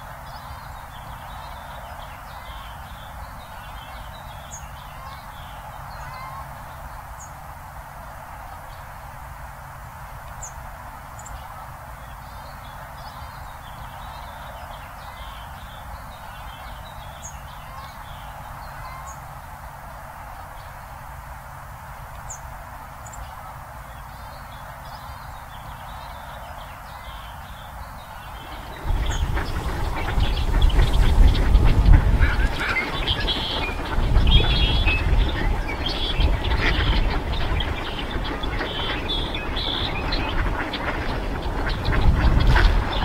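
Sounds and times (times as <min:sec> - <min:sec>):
songbirds chirping: 0:00.0 - 0:43.0
steady background hiss: 0:00.0 - 0:43.0.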